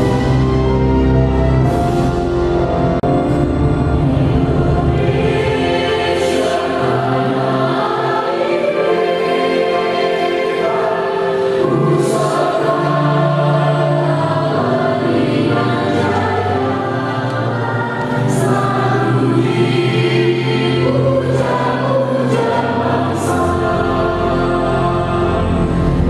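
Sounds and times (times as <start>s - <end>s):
choir singing long notes: 0.0s - 26.0s.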